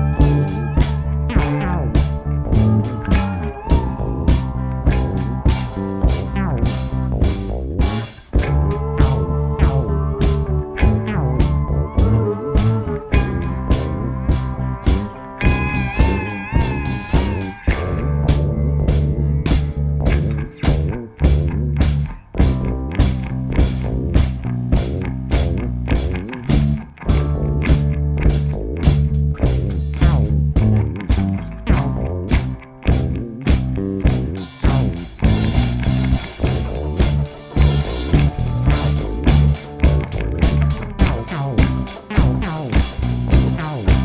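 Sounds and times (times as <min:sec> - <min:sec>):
bass guitar: 0:00.0 - 0:44.0
drum kit beat: 0:00.0 - 0:44.0
electric guitar lead notes: 0:00.0 - 0:44.0.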